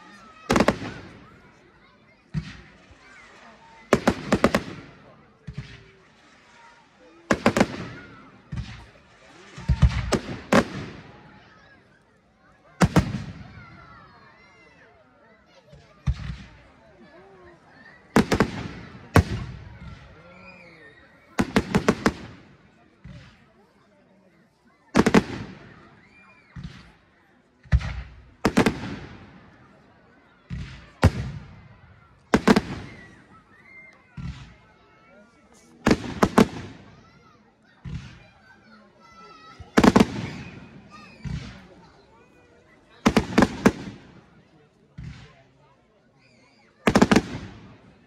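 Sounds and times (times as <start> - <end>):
fireworks bursting with crackle: 0.2 - 12.0, 12.8 - 13.9, 15.7 - 23.8, 24.9 - 29.8, 30.5 - 34.8, 35.6 - 37.2, 37.8 - 38.5, 39.1 - 42.4, 43.0 - 45.4, 46.2 - 48.0.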